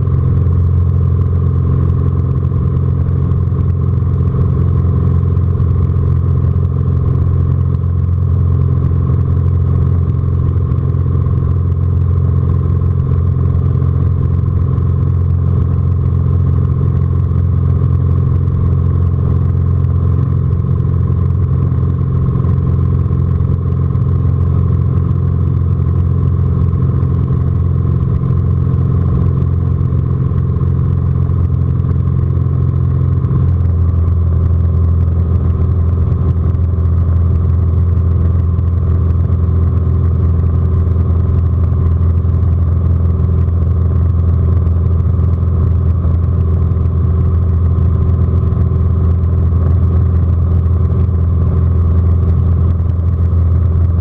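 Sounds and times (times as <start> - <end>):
propeller plane engine running: 0.0 - 54.0.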